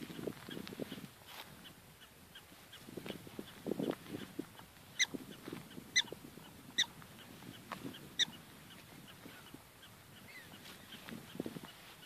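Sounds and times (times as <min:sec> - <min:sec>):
prairie dog barking: 0:00.1 - 0:12.0.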